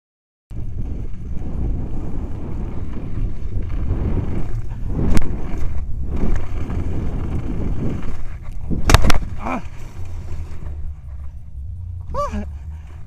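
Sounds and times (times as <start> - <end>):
bicycle rolling across snow: 0.5 - 13.0
wind buffeting microphone: 0.5 - 13.0.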